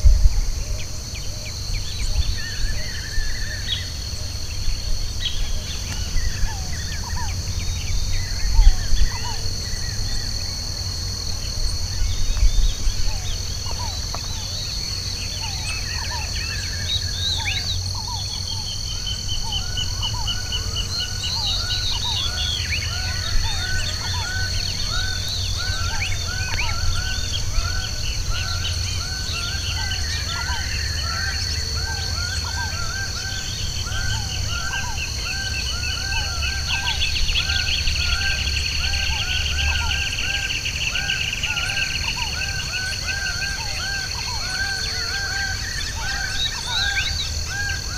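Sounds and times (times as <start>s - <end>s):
birds singing and chirping: 0.0s - 47.9s
high-pitched insect drone: 0.0s - 47.9s.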